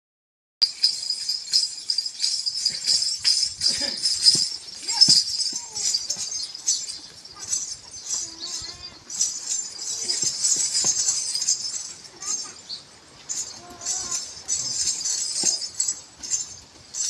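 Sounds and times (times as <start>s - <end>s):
bells jingling: 0.6s - 17.0s.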